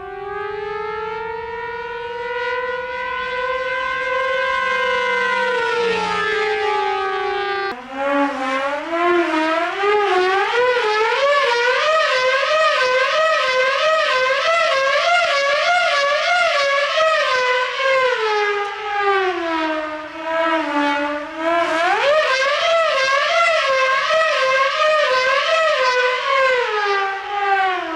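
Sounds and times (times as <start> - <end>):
model plane siren wailing: 0.0 - 27.9.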